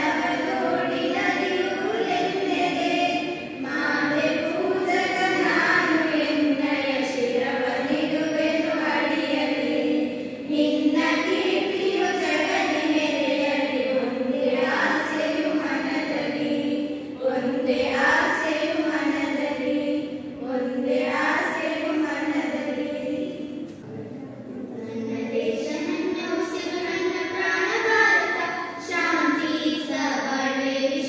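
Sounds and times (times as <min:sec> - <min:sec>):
girls singing in unison: 0:00.0 - 0:31.0.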